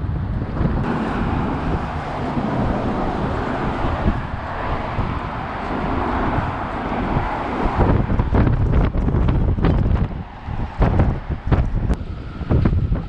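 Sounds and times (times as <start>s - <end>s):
gusty wind buffeting microphone: 0.0s - 13.0s.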